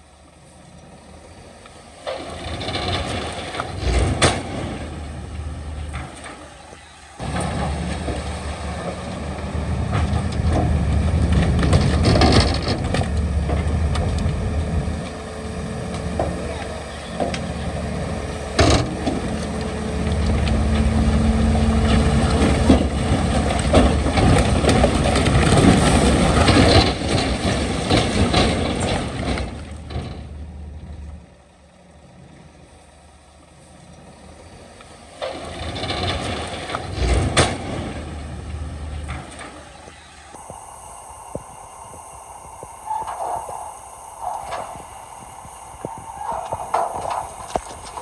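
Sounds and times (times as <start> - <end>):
diesel engine running hard: 0.0 - 48.0.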